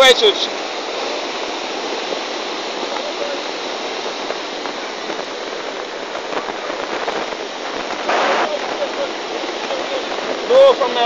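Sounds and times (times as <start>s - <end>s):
floodwater rushing through gully: 0.0s - 11.0s.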